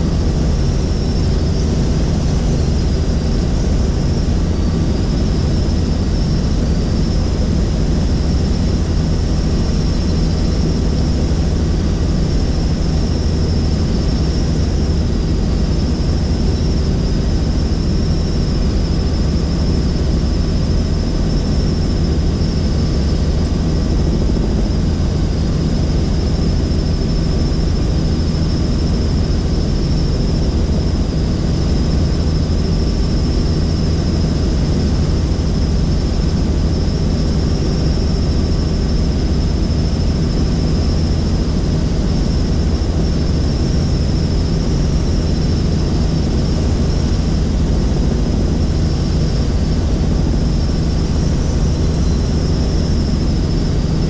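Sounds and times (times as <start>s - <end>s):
helicopter drone from cabin: 0.0s - 54.0s
high engine whine: 0.0s - 54.0s.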